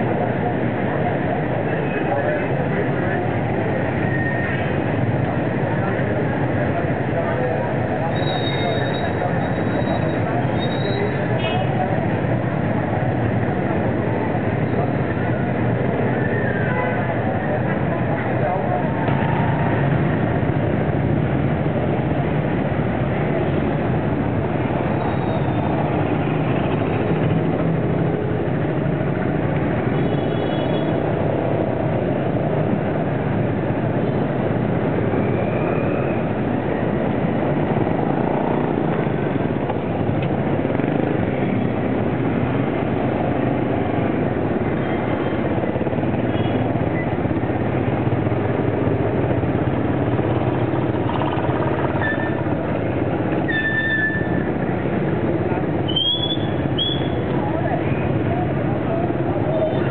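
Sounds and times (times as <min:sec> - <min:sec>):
motorbikes and cars passing: 0:00.0 - 0:59.9.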